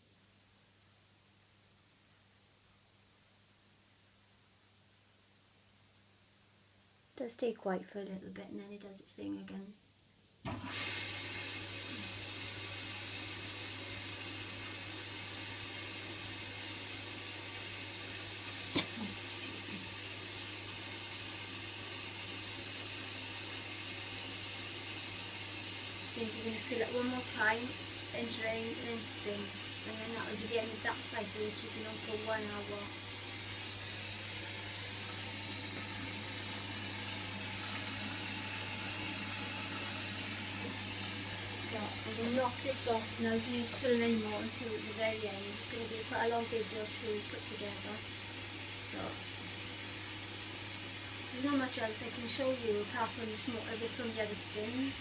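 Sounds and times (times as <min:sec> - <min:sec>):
even hiss: 0:10.4 - 0:55.0
washing machine low hum: 0:10.5 - 0:55.0
washing machine water rushing: 0:10.5 - 0:55.0.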